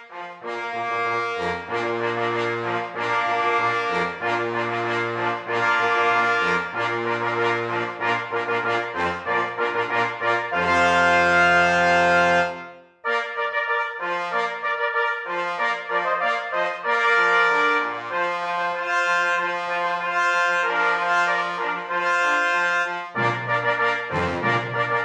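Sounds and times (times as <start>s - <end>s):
brass fanfare music: 0.0s - 25.0s.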